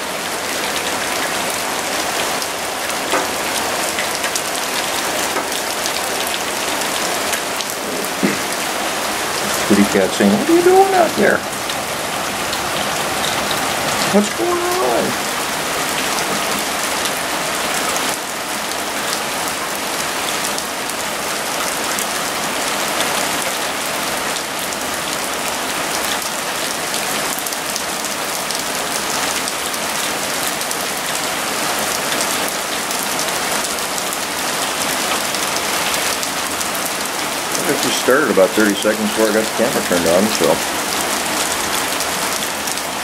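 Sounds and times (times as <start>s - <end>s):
heavy rain on pavement: 0.0s - 43.0s.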